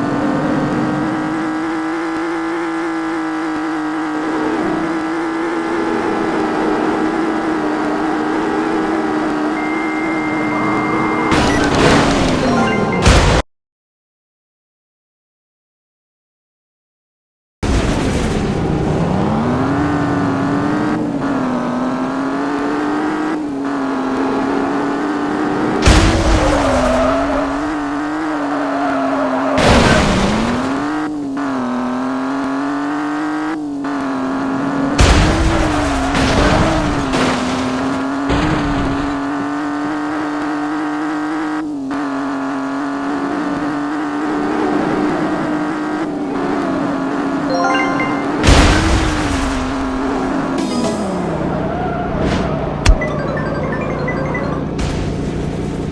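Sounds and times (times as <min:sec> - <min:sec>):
car engine at high revs: 0:00.0 - 0:12.4, 0:17.7 - 0:55.9.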